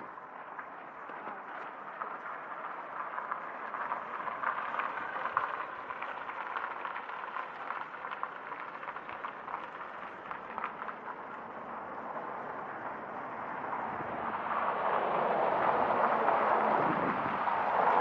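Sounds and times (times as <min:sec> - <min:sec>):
street ambience hiss: 0:00.0 - 0:18.0.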